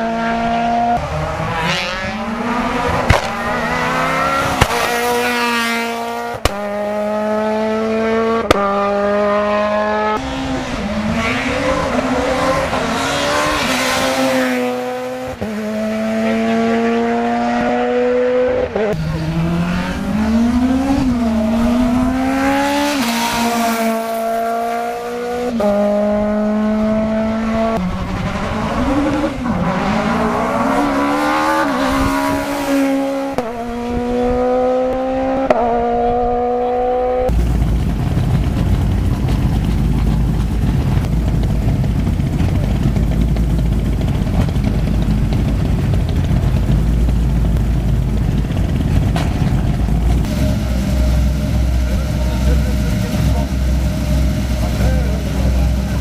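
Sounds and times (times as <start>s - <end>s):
rally car engine accelerating: 0.0s - 56.0s
rally car idling: 0.1s - 17.6s, 18.9s - 34.1s, 37.3s - 56.0s.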